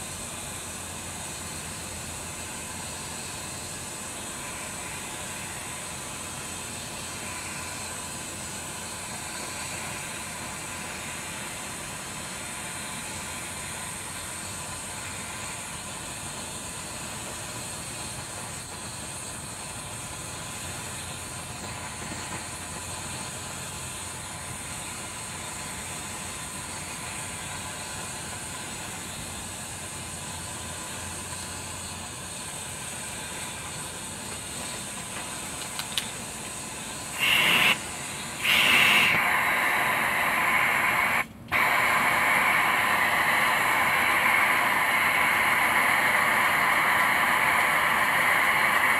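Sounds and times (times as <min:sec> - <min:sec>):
pressure burner hissing: 0:00.0 - 0:48.9.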